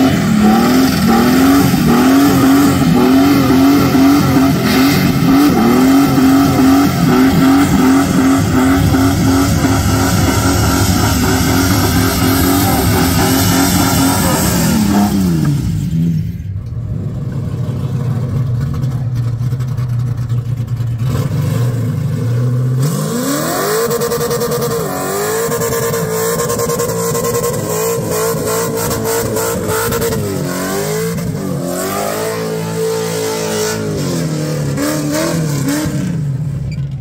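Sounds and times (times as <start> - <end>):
car engine revving: 0.0 - 36.7.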